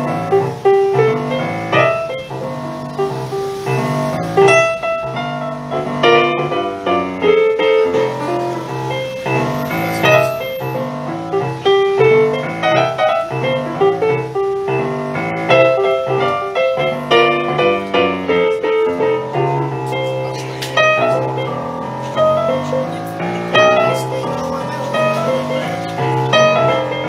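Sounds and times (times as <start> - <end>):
amplified digital piano playing: 0.0 - 27.0.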